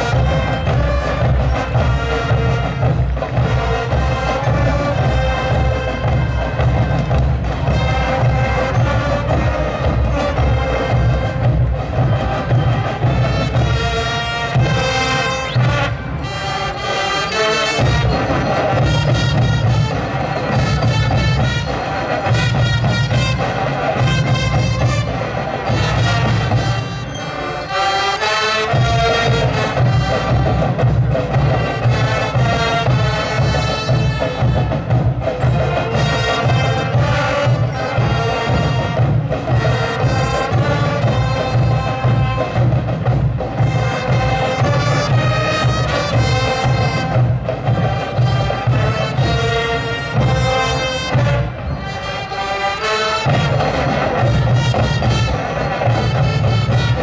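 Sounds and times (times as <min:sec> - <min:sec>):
pulsing drum beat: 0:00.0 - 0:27.2, 0:28.6 - 0:52.0, 0:52.8 - 0:57.0
brass chords: 0:00.0 - 0:57.0.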